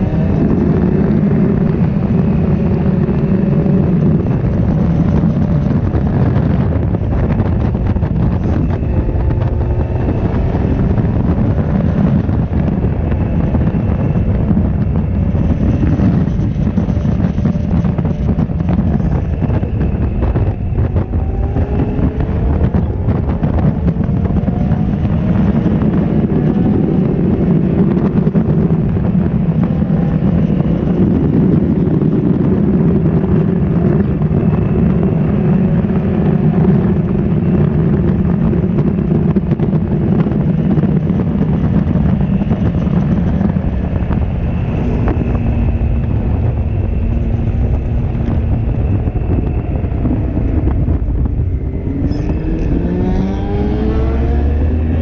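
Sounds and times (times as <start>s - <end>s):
motorcycle engine running hard: 0.0s - 55.0s
wind buffeting microphone: 0.0s - 55.0s.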